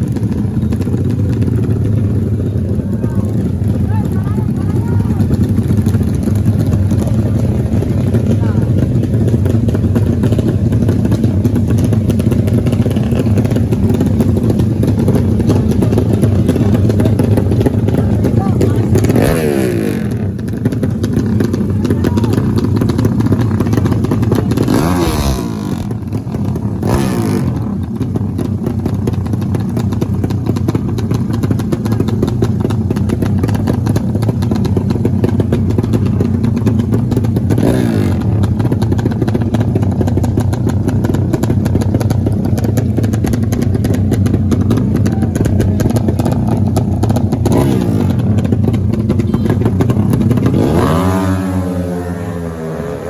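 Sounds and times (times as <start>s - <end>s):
racing motorcycle engines revving: 0.0s - 53.0s.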